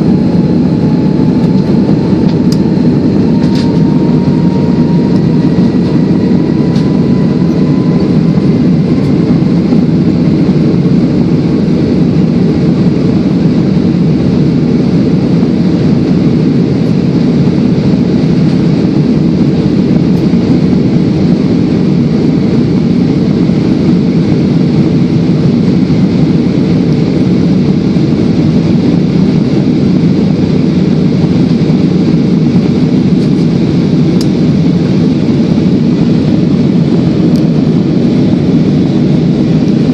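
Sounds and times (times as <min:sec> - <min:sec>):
airliner cabin engine rush: 0:00.0 - 0:39.9
faint engine whine: 0:00.0 - 0:39.9.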